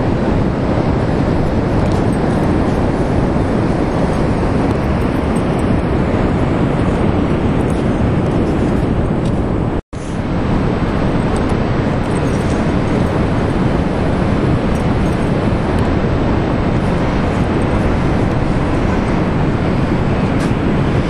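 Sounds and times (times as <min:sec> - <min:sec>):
ocean surf: 0:00.0 - 0:21.0
wind on microphone: 0:00.0 - 0:21.0.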